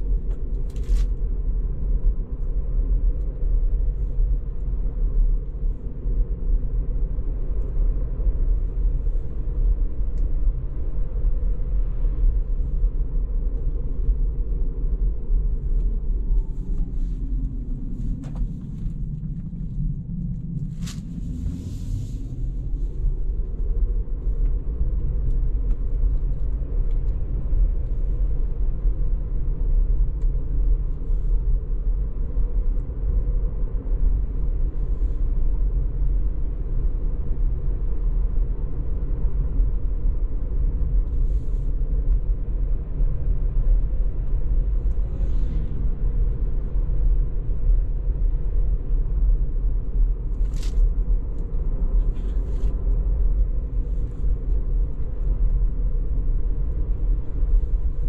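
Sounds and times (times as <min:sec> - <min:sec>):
road and tyre rumble in car cabin: 0:00.0 - 0:58.0.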